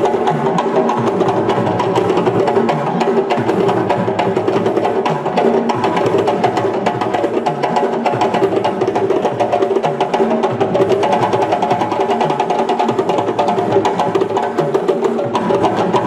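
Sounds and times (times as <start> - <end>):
drum ensemble playing fast: 0.0 - 16.0.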